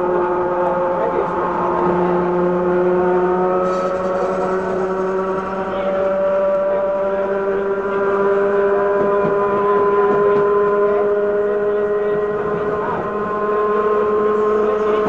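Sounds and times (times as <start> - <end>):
electric train motor whine: 0.0 - 15.0.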